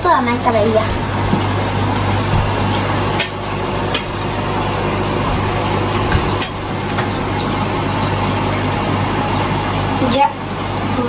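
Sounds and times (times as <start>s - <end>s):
air stone bubbling: 0.0s - 10.0s
pump humming: 0.0s - 11.0s.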